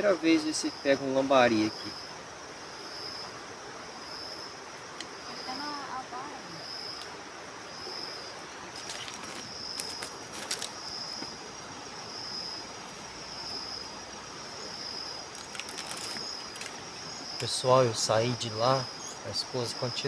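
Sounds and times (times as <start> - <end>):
high-pitched insect trill: 0.0 - 20.0
river water flowing: 0.0 - 20.0.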